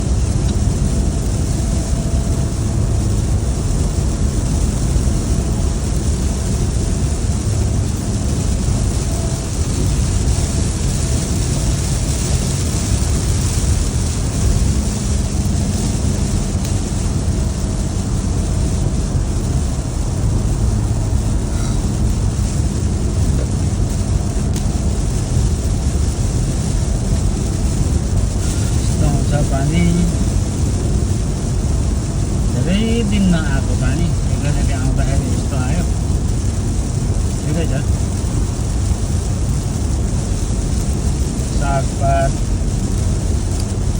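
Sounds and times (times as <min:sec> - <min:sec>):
deep continuous rumble: 0:00.0 - 0:43.9
pouring rain: 0:00.0 - 0:43.9
storm water rushing: 0:00.0 - 0:43.9.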